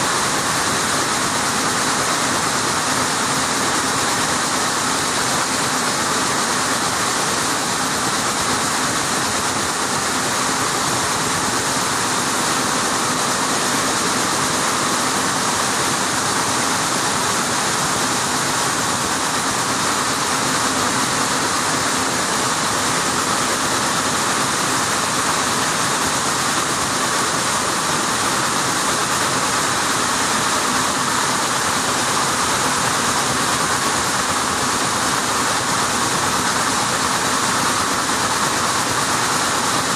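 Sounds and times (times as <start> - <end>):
weaving looms running: 0.0 - 39.9.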